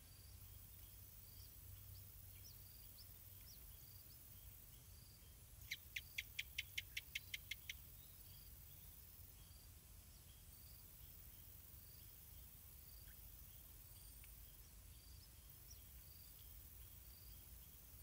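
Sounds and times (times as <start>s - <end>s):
high insect chirps: 0.0s - 18.0s.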